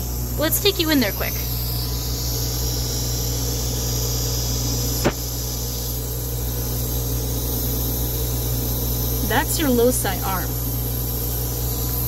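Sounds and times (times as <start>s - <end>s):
machine hum with hiss: 0.0s - 12.0s.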